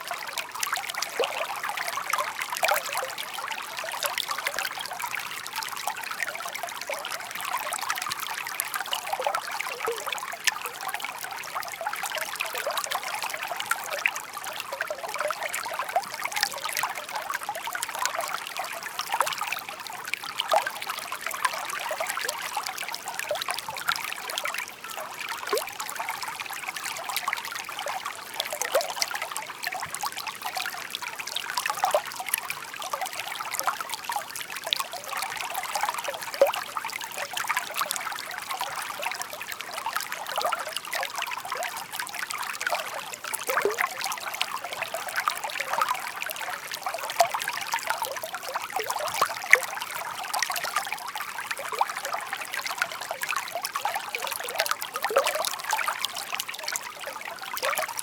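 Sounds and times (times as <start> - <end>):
babbling stream: 0.0 - 58.0.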